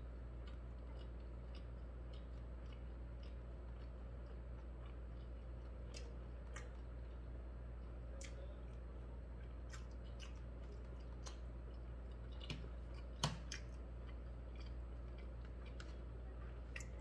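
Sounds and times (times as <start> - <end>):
man chewing food: 0.0 - 17.0
steady low hum: 0.0 - 17.0.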